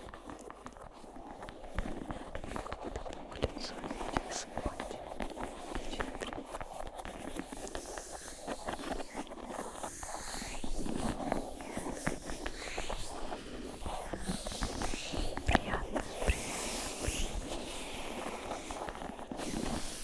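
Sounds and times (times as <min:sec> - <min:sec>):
soft rustling and scratching: 0:00.0 - 0:20.0.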